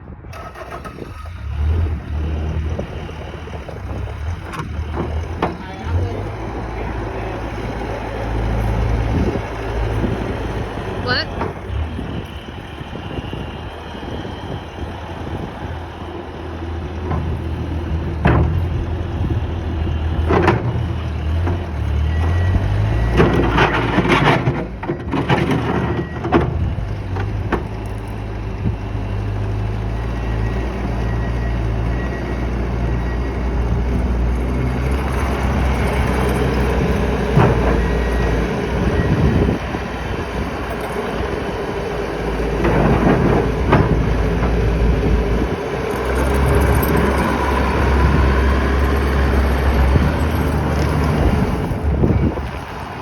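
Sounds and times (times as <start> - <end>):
skid steer engine running: 0.3 - 53.0.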